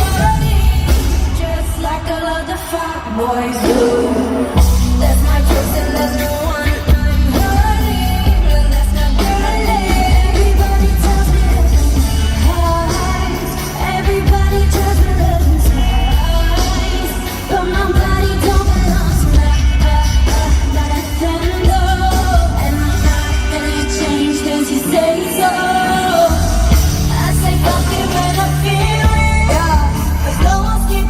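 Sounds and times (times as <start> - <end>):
person singing: 0.0 - 31.0.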